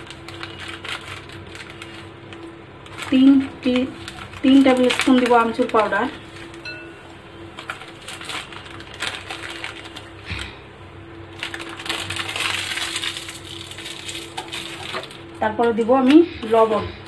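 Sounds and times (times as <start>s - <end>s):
powder rustling: 0.0s - 10.6s, 11.3s - 17.0s.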